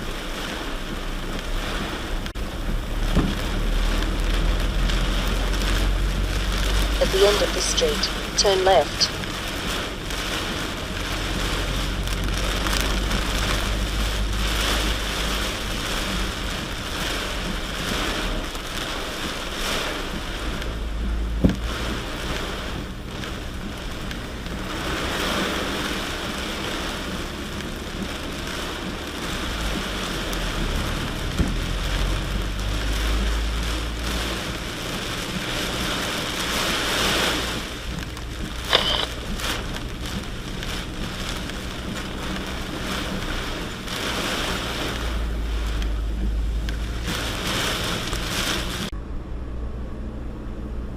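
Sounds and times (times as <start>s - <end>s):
rain falling on a truck: 0.0s - 50.9s
truck engine rumble: 0.0s - 50.9s.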